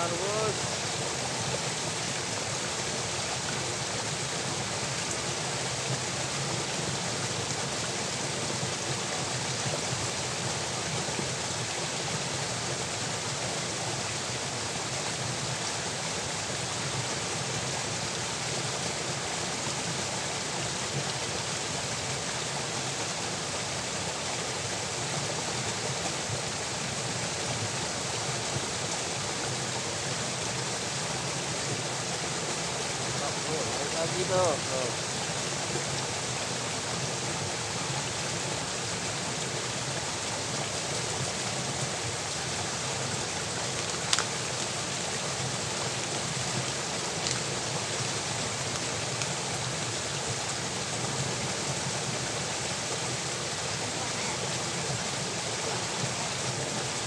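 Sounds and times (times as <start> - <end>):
water rushing through channel: 0.0 - 57.0.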